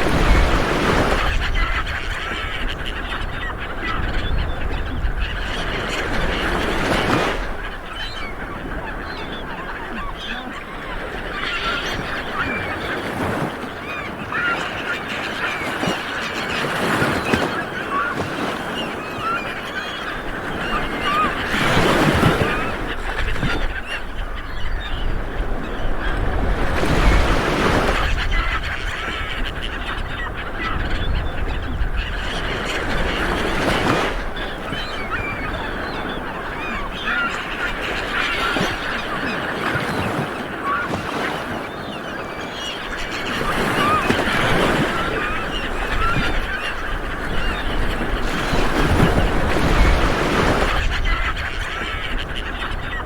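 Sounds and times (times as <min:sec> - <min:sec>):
small waves breaking on beach: 0:00.0 - 0:04.0, 0:04.7 - 0:53.0
birds honking: 0:00.0 - 0:53.0.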